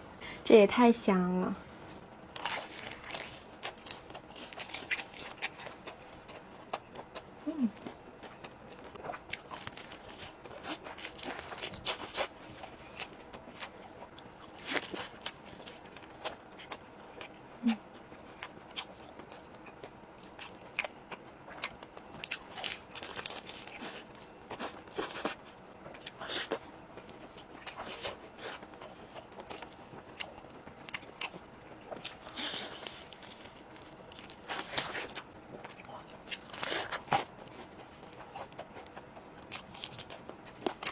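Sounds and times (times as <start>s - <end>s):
crackles of crisp skin: 1.8s - 40.9s
crunchy bites and chewing: 2.1s - 40.9s.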